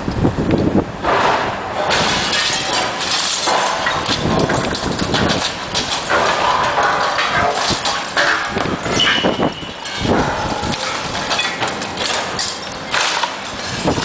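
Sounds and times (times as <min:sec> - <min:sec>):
bricks and rubble tumbling: 0:01.0 - 0:14.0.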